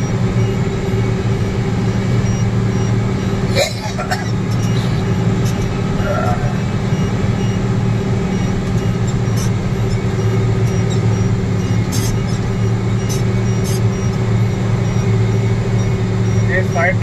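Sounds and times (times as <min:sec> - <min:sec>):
heavy diesel machinery droning: 0:00.0 - 0:17.0.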